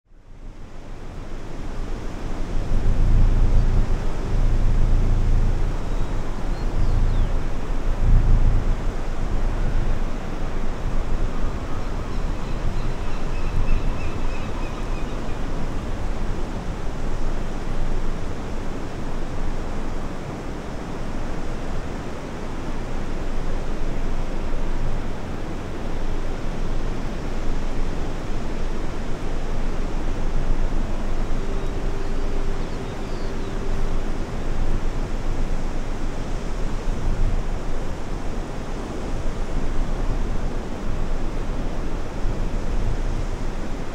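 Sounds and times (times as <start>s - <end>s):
wind rumbling on microphone: 0.1s - 43.9s.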